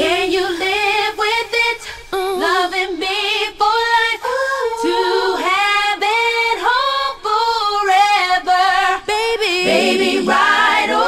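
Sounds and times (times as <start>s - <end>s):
woman singing: 0.0s - 10.4s.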